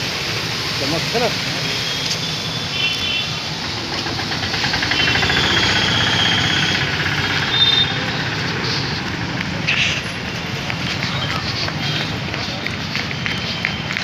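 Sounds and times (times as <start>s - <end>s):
vehicle engine running: 0.6s - 14.0s.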